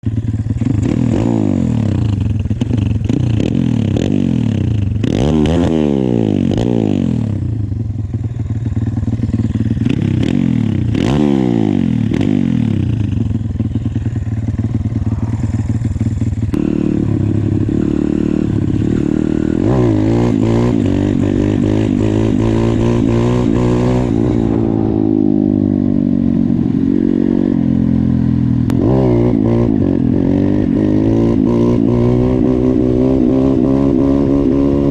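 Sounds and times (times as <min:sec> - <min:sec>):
motorbike engine revving: 0:00.0 - 0:34.9.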